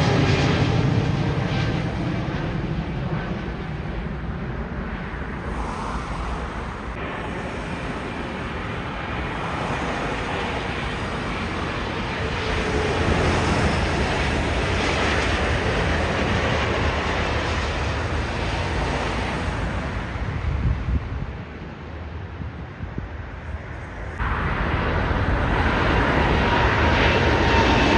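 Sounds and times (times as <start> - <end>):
jet airliner passing: 0.0 - 27.9.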